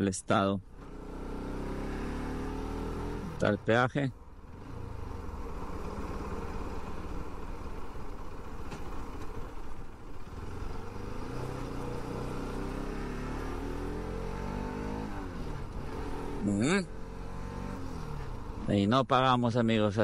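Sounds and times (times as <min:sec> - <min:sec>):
motorcycle engine running: 0:00.7 - 0:18.8.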